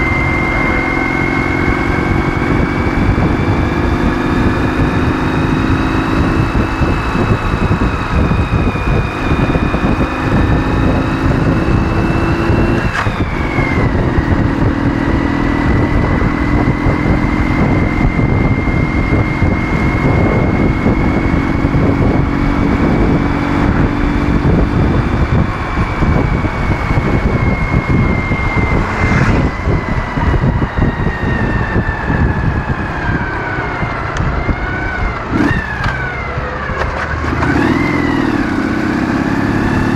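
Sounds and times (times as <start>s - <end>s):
motorcycle engine running: 0.0s - 39.9s
whining tone: 0.0s - 39.9s.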